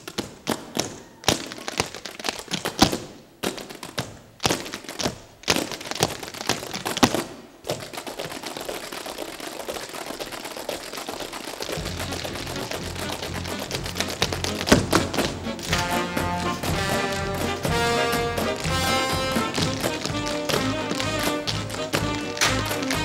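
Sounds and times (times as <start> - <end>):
tap shoes tapping on stage: 0.0 - 23.0.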